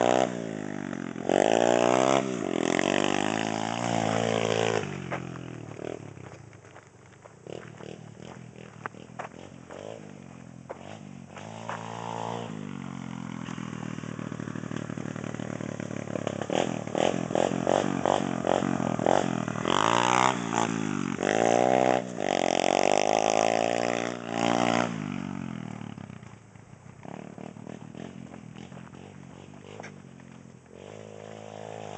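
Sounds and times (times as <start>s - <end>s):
pit bike engine revving: 0.0s - 6.5s, 7.4s - 31.9s.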